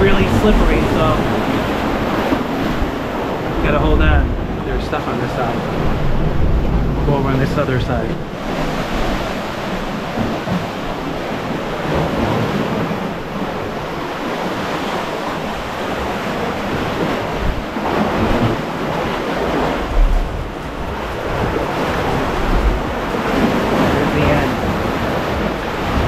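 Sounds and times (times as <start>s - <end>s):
ocean surf churning in sea cave: 0.0s - 26.0s.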